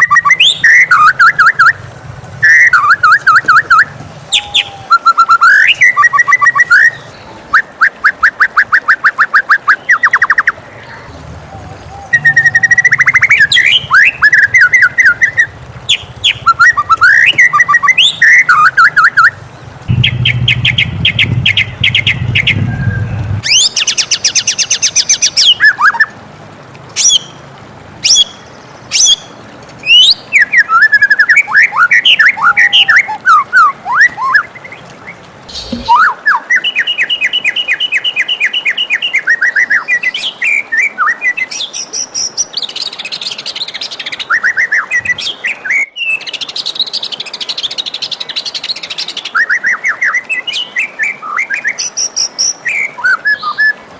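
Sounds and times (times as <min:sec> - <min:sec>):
songbird singing whistles and trills: 0:00.0 - 0:10.6, 0:11.6 - 0:26.2, 0:27.0 - 0:27.4, 0:28.0 - 0:53.8.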